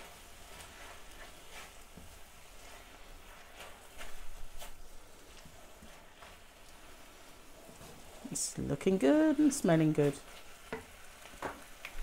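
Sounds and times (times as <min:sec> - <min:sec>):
food frying hiss: 0:00.0 - 0:12.0
spatula scraping wok: 0:00.0 - 0:12.0.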